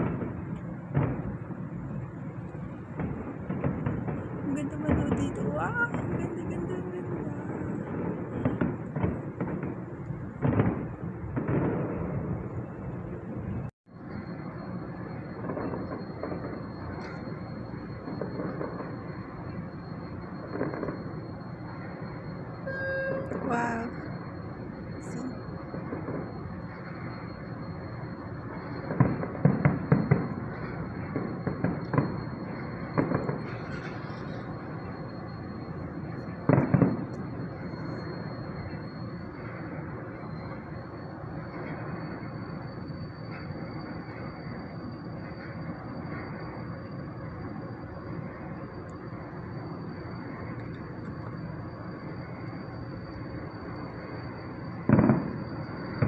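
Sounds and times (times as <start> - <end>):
distant fireworks bangs: 0.0 - 56.0
steady background noise: 0.0 - 56.0
steady background rumble: 0.0 - 56.0.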